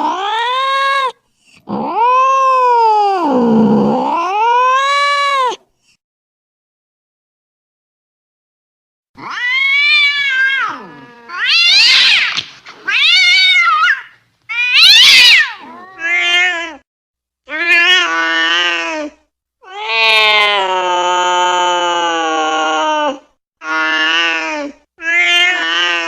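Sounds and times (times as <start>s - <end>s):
cat yowling angrily: 0.0s - 5.6s, 9.2s - 16.8s, 17.5s - 26.0s.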